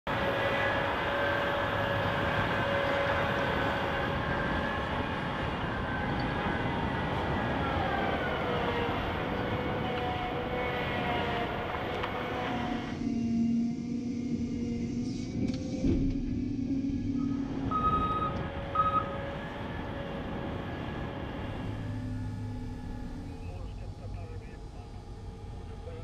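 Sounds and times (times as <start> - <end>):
heavy diesel engine rumble: 0.1 - 13.4, 15.4 - 26.0
machine whine: 0.1 - 26.0.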